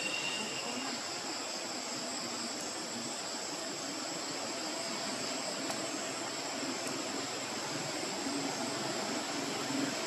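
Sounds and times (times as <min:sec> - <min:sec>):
even hiss: 0:00.0 - 0:10.0
high-pitched insect drone: 0:00.0 - 0:10.0.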